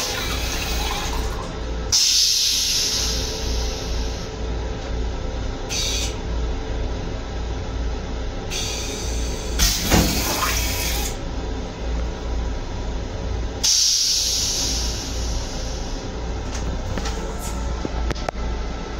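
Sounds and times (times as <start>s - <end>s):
steady low rumble: 0.0s - 9.8s, 11.1s - 18.9s.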